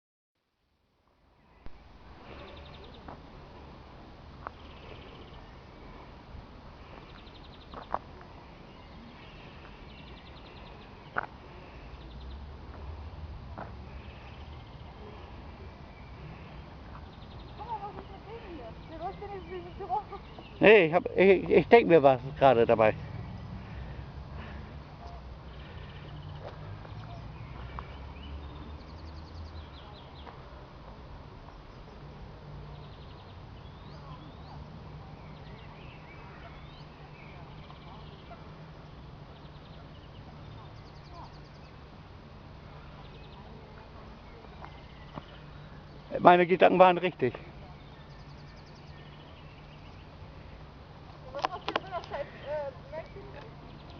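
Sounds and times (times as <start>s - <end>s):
songbirds trilling: 1.4s - 53.9s.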